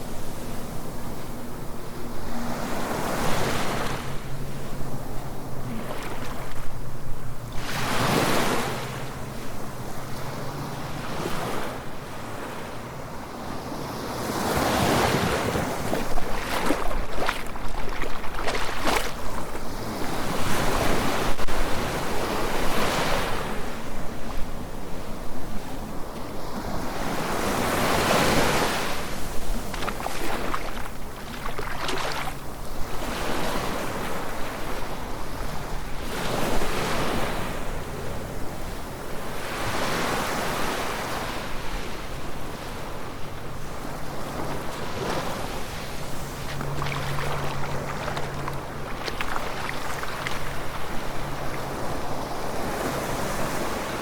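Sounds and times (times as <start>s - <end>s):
small waves breaking on shore: 0.0s - 54.0s
wind: 0.0s - 54.0s.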